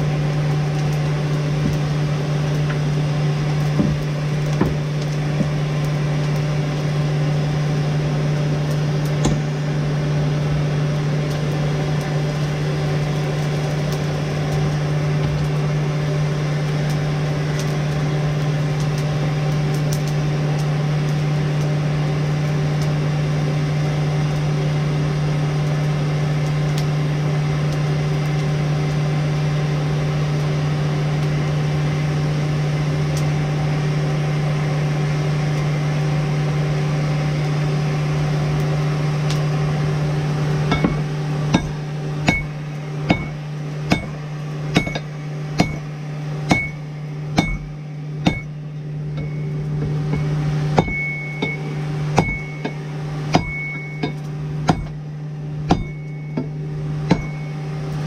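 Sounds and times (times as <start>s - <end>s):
forge humming and rushing: 0.0s - 58.0s.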